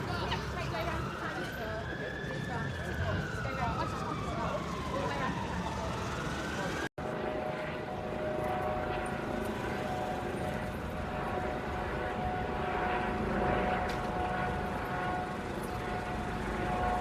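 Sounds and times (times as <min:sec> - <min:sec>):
engine drone with whine: 0:00.0 - 0:17.0.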